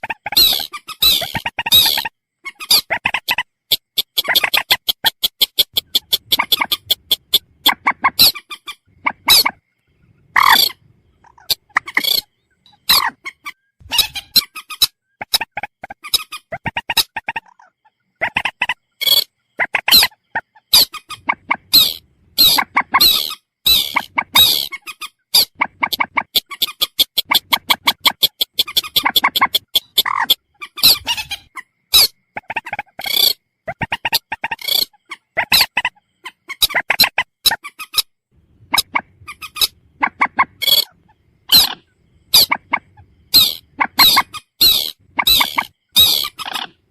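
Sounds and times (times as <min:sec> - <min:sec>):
moorhen calls: 0:00.0 - 0:38.0, 0:38.6 - 0:46.8.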